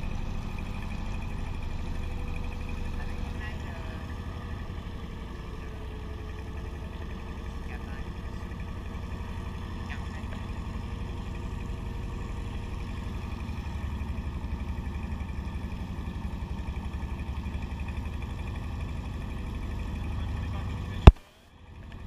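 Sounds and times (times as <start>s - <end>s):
boat engine running: 0.0s - 22.0s
water rushing along hull: 0.0s - 22.0s.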